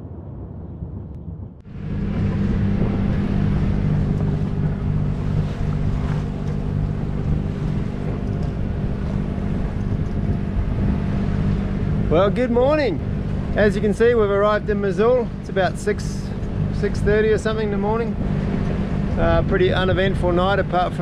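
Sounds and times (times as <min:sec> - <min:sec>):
wind noise: 0:00.0 - 0:21.0
boat engine droning: 0:01.6 - 0:21.0
water wash: 0:01.7 - 0:21.0.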